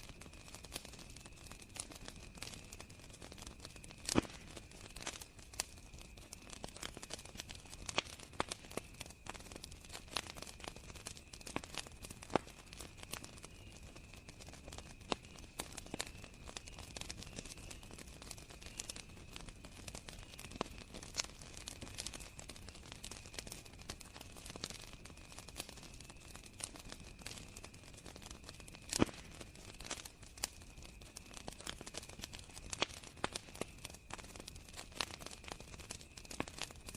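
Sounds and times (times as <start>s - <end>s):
wood fire crackling and popping: 0.0s - 36.9s
crickets trilling: 0.1s - 36.9s.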